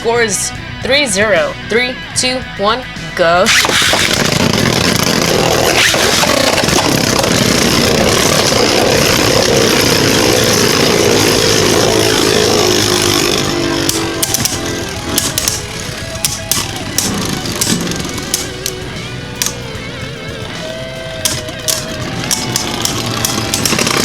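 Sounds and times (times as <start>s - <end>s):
sharp clicks: 3.5s - 24.0s
spinning tops whirring and scraping: 3.5s - 24.0s.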